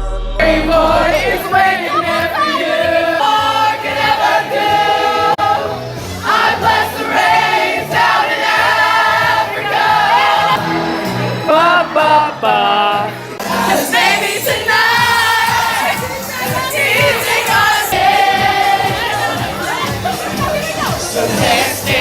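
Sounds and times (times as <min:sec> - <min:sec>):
choir singing: 0:00.3 - 0:22.0.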